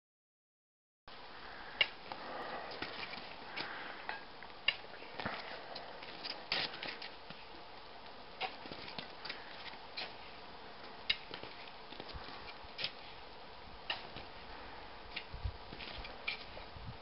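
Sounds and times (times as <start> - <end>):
faint steady hiss: 1.1 - 17.0.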